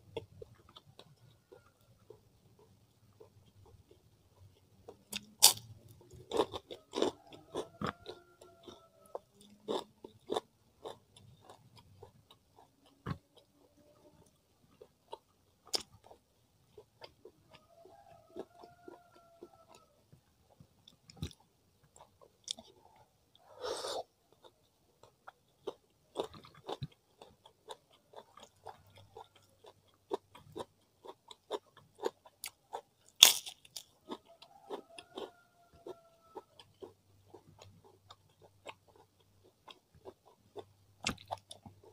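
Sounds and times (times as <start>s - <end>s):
chewing and crunching: 0.1s - 41.9s.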